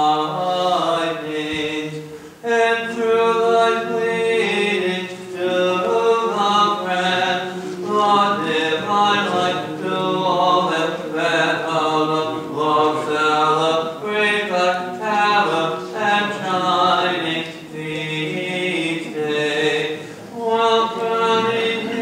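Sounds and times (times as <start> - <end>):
men chanting a hymn: 0.0 - 22.0.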